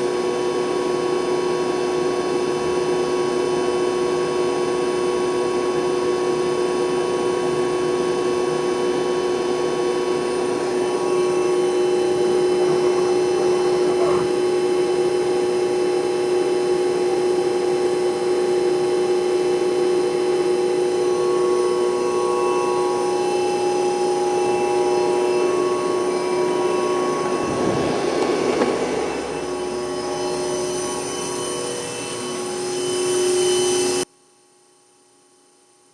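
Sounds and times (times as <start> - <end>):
machining center humming and whining: 0.0 - 34.1.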